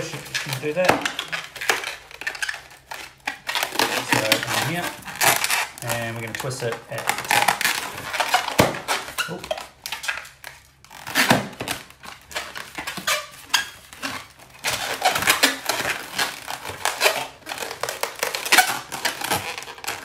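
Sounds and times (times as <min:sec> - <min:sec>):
balloon rubbery scraping: 0:00.0 - 0:20.0.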